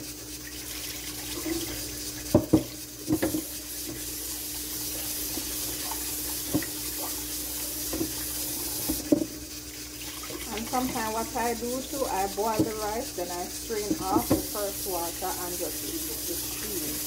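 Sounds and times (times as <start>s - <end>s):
kitchen tap running: 0.0s - 17.0s
rinse water pouring: 0.0s - 17.0s.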